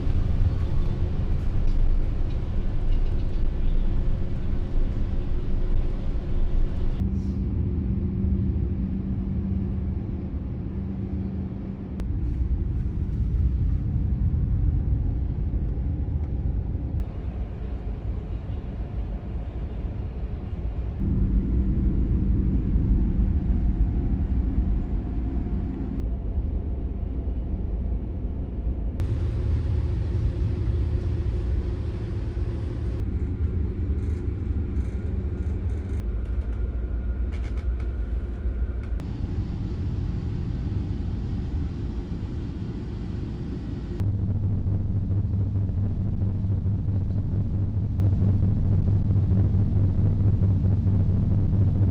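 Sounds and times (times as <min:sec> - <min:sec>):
ship engines low rumble: 0:00.0 - 0:51.9.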